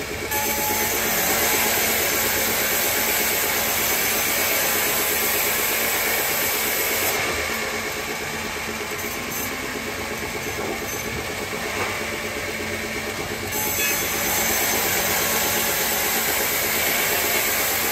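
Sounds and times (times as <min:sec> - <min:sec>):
band saw cutting log: 0:00.0 - 0:17.9.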